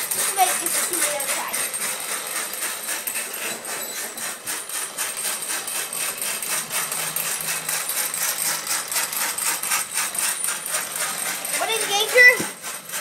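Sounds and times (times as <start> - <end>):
model steam engine clattering: 0.0 - 13.0.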